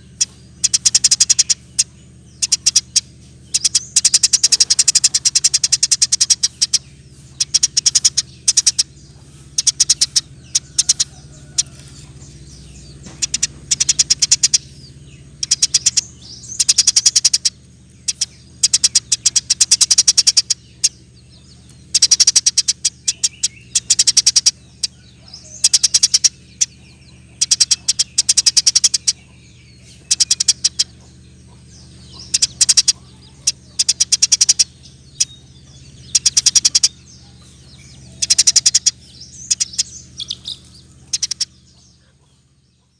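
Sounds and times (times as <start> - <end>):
faint low hum: 0.0 - 42.9
sparrow chattering chirps: 0.0 - 42.9.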